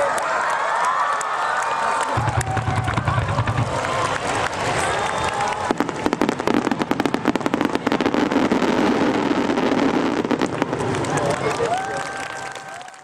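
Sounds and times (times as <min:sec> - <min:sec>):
fireworks crackling: 0:02.2 - 0:13.0.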